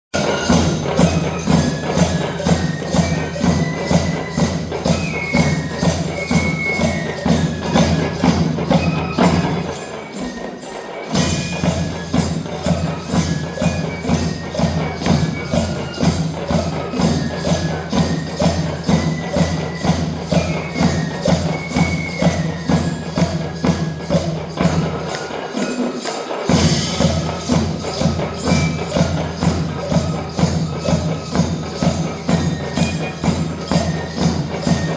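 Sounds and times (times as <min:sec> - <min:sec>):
driving drum beat: 0:00.1 - 0:34.9.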